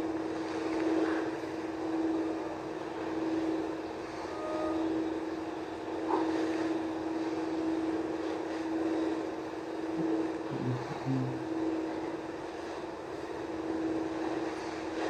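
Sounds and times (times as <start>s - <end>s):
low hum: 0.0s - 15.0s
machine drone: 0.0s - 15.0s.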